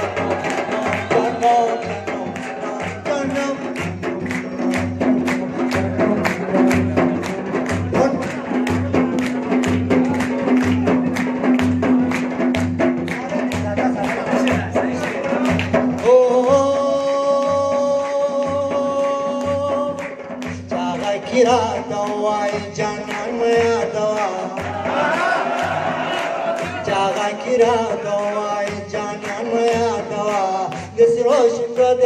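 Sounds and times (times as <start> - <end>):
drum and hand percussion rhythm: 0.0 - 32.0.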